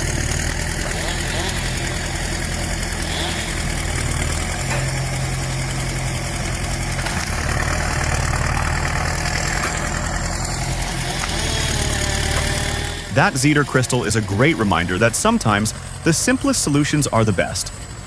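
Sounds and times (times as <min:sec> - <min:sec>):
heavy machine engine idling: 0:00.0 - 0:18.0.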